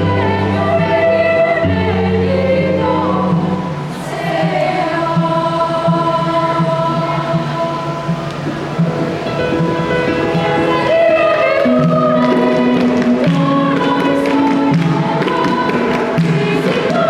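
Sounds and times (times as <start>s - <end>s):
children's choir singing a carol: 0.0s - 17.0s
instrumental accompaniment: 0.0s - 17.0s.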